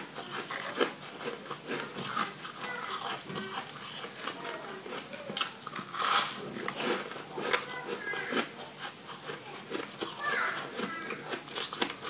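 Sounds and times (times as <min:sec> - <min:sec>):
crunching ice: 0:00.2 - 0:12.0.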